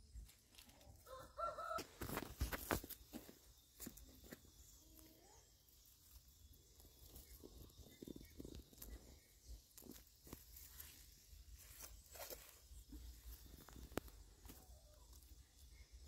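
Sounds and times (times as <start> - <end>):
faint chicken cluck: 0.6 - 6.2, 6.8 - 16.0
onion stalks rustling and snapping: 2.0 - 4.8, 5.8 - 15.8.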